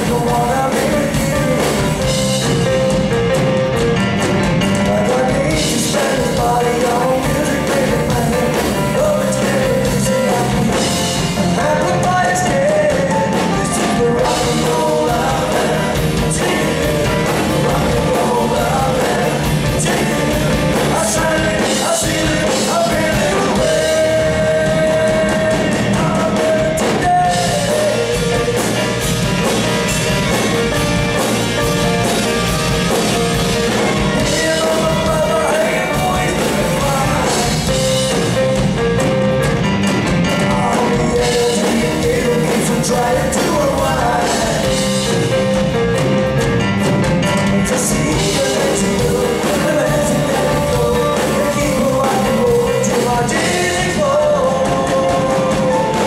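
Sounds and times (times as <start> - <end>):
bass guitar: 0.0 - 56.0
drum kit: 0.0 - 56.0
lead singer: 0.0 - 56.0.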